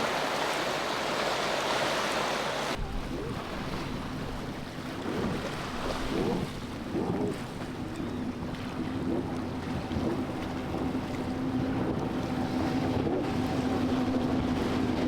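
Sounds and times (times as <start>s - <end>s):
motorboat engine humming: 0.0s - 15.0s
rushing water: 0.0s - 15.0s
wind buffeting microphone: 2.7s - 15.0s.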